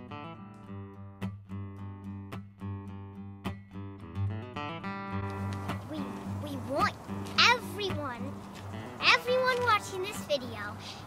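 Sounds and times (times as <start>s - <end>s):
acoustic guitar strumming chords: 0.0s - 10.4s.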